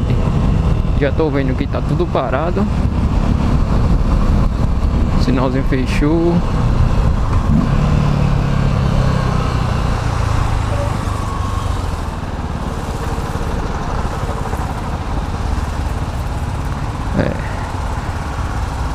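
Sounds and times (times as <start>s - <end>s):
vehicle engines idling: 0.0s - 18.9s.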